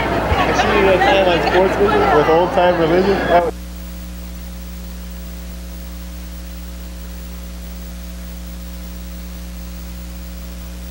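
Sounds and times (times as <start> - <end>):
constant hiss: 0.0 - 10.9
electrical mains hum: 0.0 - 10.9.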